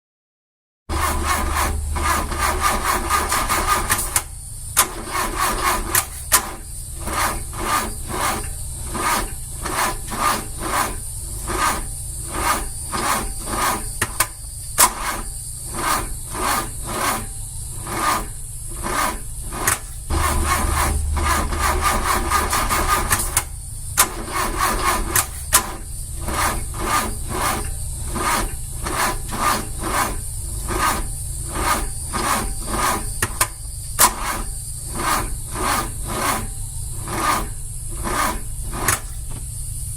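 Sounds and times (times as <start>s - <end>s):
car starter motor cranking slowly: 0.9s - 39.9s.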